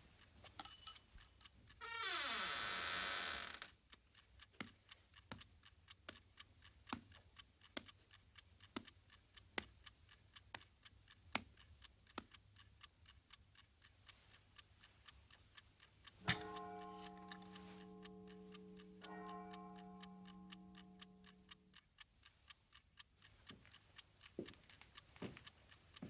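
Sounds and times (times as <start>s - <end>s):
alarm clock ticking: 0.0s - 2.0s, 3.0s - 26.0s.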